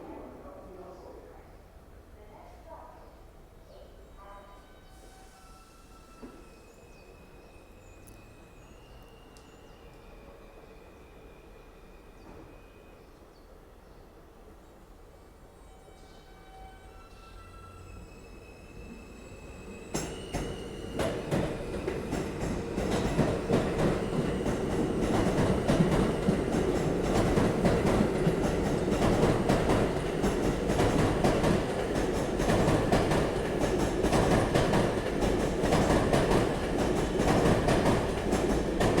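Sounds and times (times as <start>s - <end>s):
subway train rumbling on rails: 3.1s - 39.0s.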